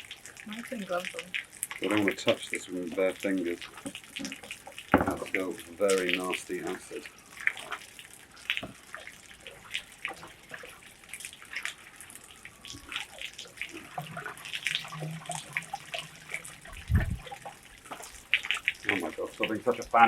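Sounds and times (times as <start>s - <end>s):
water splashing and dripping: 0.0s - 20.0s.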